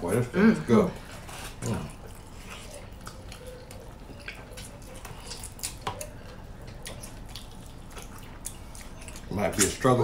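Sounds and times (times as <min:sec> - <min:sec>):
wet chewing and lip smacks: 0:01.2 - 0:10.0.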